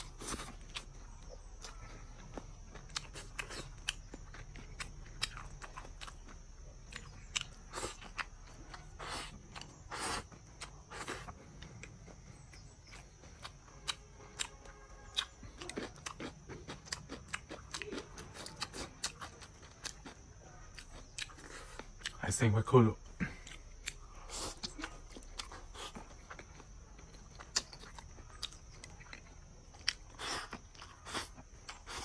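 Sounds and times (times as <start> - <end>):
close chewing of food: 0.0 - 32.0.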